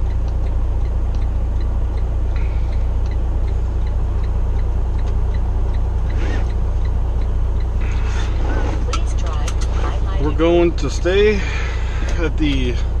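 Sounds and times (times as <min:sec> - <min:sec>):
diesel truck engine droning: 0:00.0 - 0:13.0
faint regular ticking: 0:00.0 - 0:13.0.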